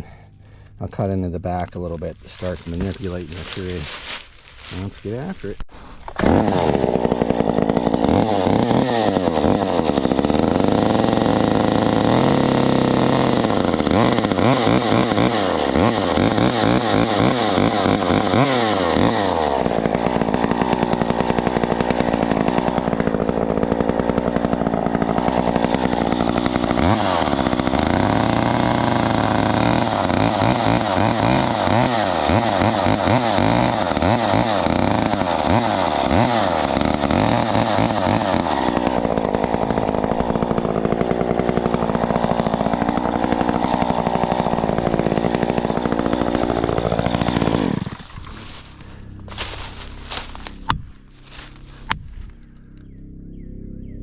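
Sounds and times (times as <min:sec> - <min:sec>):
chainsaw cutting a tree: 0:01.6 - 0:53.2.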